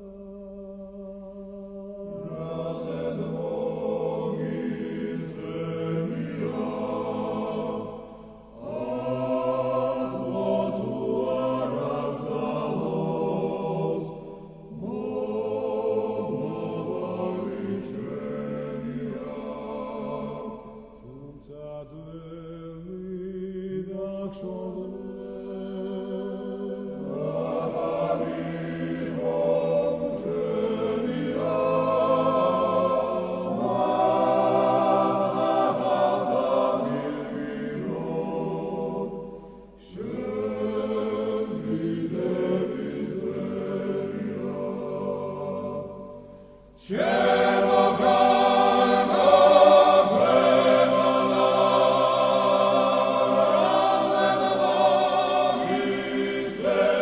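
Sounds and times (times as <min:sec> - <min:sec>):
choir singing a slow chant: 0:00.0 - 0:57.0.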